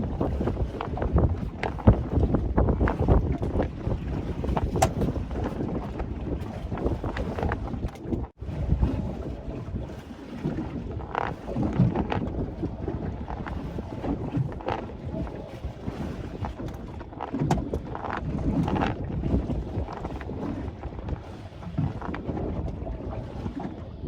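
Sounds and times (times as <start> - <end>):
boat knocking: 0.0 - 24.0
water slapping against boat hull: 0.0 - 24.0
wind buffeting the microphone: 0.0 - 24.0.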